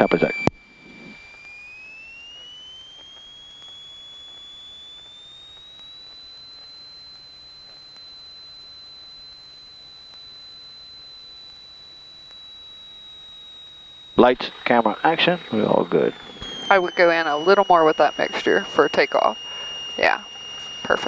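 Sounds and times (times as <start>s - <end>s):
high-pitched electrical whine: 0.0s - 21.0s.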